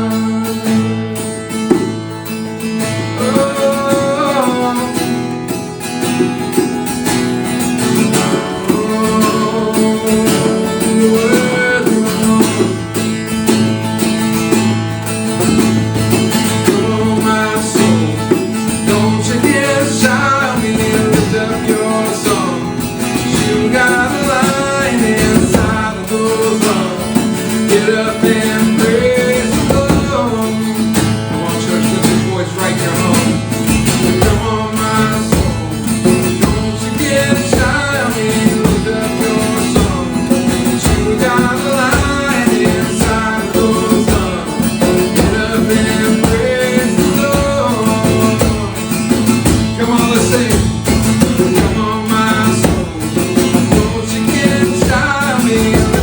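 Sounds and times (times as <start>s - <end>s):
person singing: 0.0s - 56.0s
strummed acoustic guitar: 0.0s - 56.0s.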